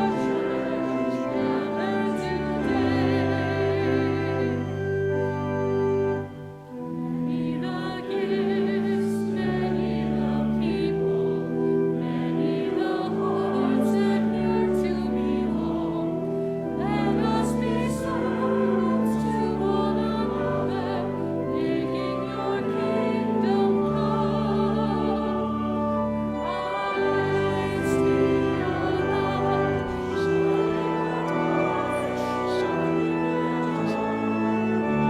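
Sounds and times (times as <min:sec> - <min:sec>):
congregation singing a hymn: 0:00.0 - 0:35.0
organ: 0:00.0 - 0:35.0.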